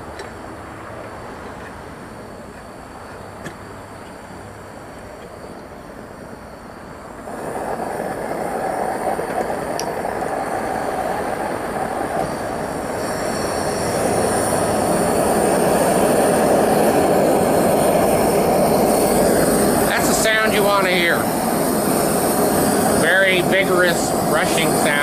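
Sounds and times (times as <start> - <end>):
gas torch flame roaring: 0.0 - 25.0.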